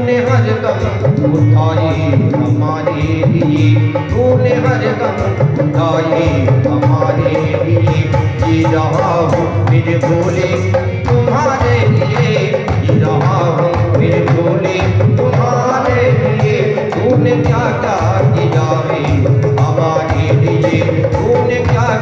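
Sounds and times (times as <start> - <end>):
hand drum rhythm: 0.0 - 22.0
instrumental accompaniment: 0.0 - 22.0
man singing into a microphone: 0.0 - 22.0.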